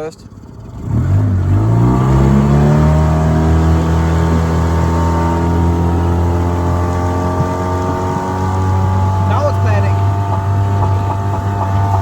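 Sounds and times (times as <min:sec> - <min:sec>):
outboard motor running hard: 0:00.0 - 0:12.0.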